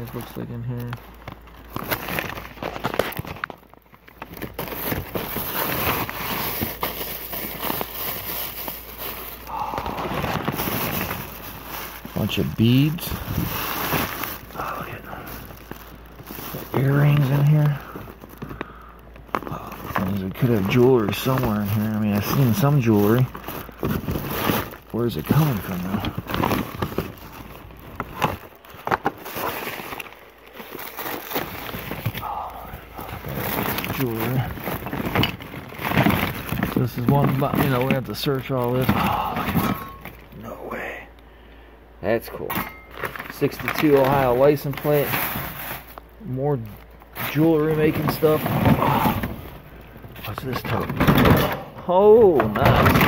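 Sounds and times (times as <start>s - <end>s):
paper and plastic bags rustling: 0.0s - 40.8s, 42.0s - 53.0s
small items shifting: 0.0s - 41.2s, 42.3s - 53.0s.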